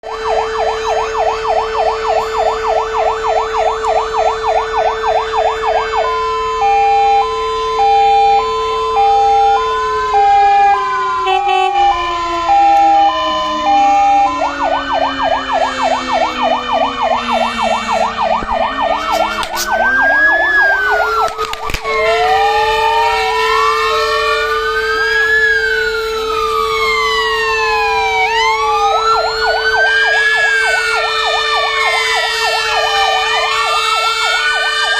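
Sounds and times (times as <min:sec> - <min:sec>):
electronic sirens: 0:00.0 - 0:34.9.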